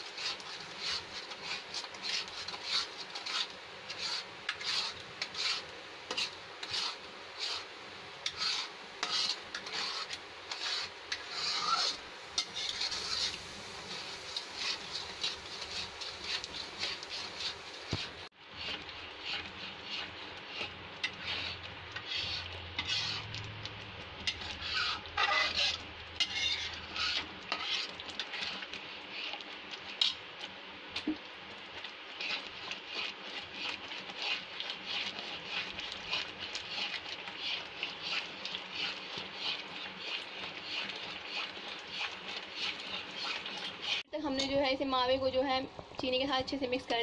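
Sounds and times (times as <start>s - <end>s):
spoon scraping metal pan: 0.0s - 30.2s, 32.1s - 44.6s.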